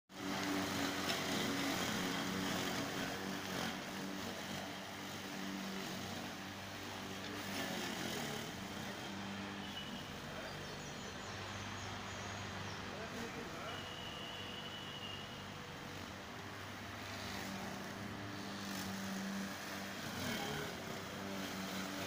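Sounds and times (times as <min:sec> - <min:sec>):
electric lawn mower cutting grass: 0:00.1 - 0:22.0.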